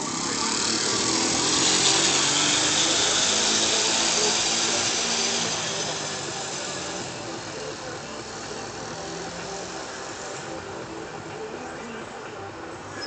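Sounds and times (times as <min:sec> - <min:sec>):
small motorbike engine whining: 0:00.0 - 0:13.0.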